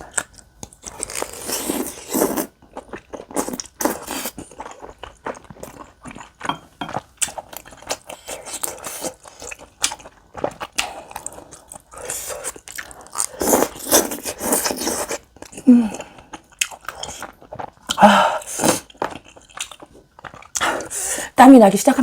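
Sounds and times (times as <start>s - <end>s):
chewing and biting: 0.1s - 15.6s, 16.3s - 18.0s, 18.8s - 20.8s.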